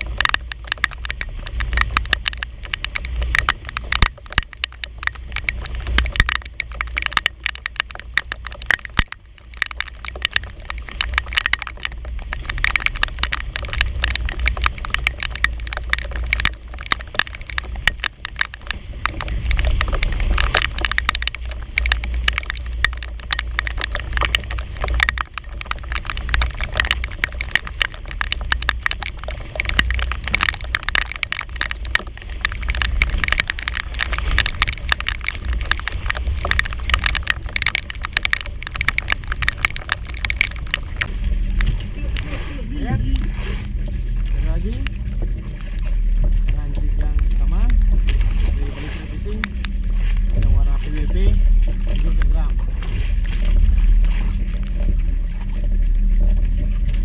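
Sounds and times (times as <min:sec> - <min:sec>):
rain falling on boat: 0:00.0 - 0:57.0.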